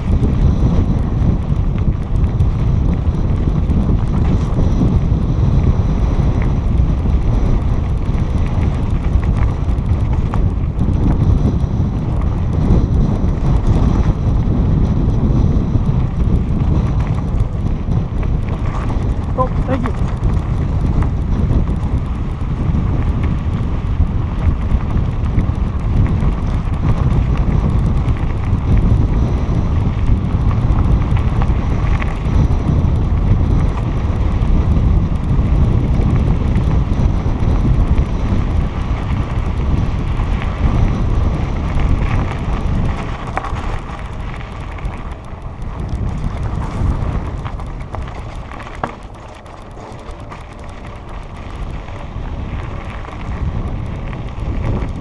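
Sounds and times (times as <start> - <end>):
bike bumps: 0.0 - 55.0
wind buffeting microphone: 0.0 - 55.0.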